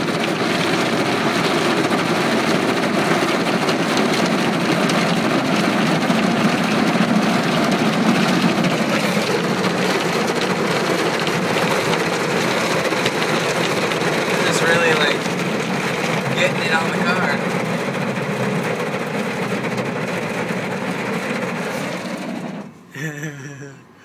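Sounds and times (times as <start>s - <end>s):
water spray on car body: 0.0s - 22.2s
car wash brushes: 0.0s - 22.7s.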